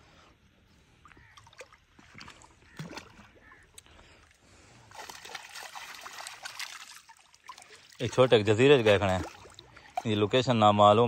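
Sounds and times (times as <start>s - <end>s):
water splashing and dripping: 1.0s - 11.0s.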